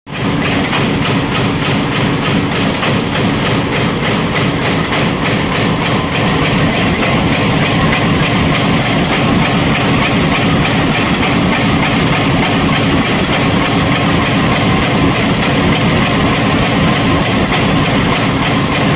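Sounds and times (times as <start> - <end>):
press machine stamping: 0.1 - 18.9
steady machine hum: 0.1 - 18.9.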